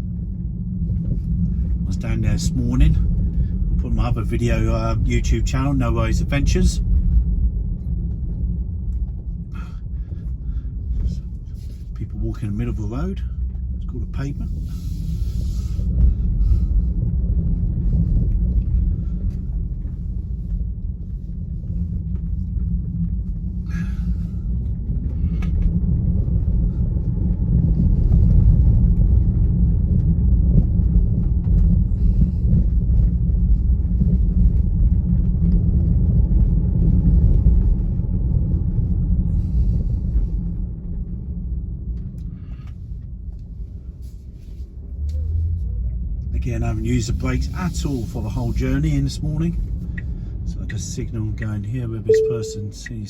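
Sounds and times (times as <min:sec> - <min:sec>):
electric car road and tyre rumble: 0:00.0 - 0:52.1.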